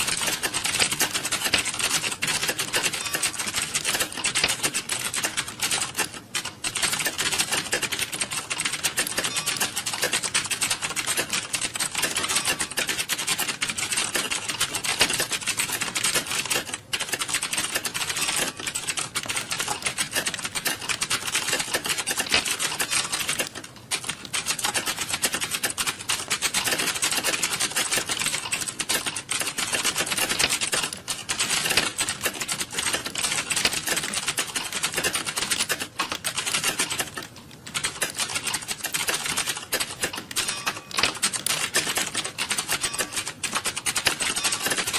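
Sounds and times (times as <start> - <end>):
computer keyboard typing: 0.0 - 44.9.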